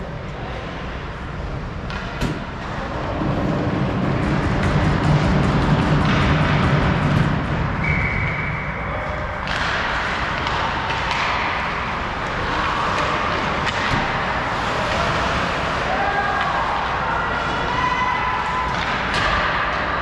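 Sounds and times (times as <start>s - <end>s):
arena crowd noise: 0.0s - 20.0s.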